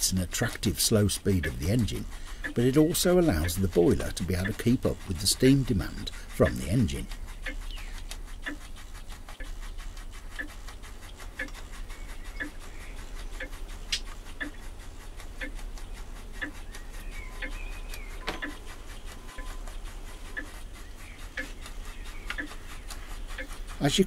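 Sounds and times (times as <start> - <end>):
model steam engine ticking: 0.0 - 24.0.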